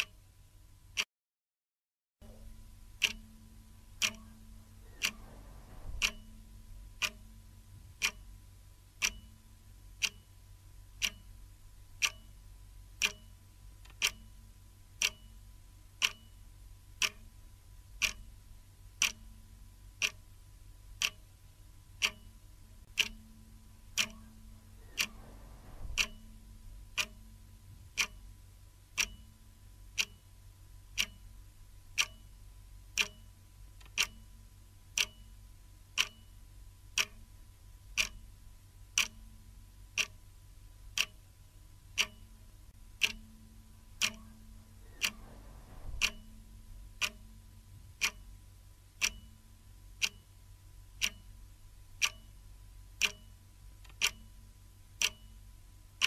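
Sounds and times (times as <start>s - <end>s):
clock ticking: 0.0s - 0.3s, 2.2s - 56.0s
faint steady hum: 0.0s - 1.1s, 2.2s - 56.0s.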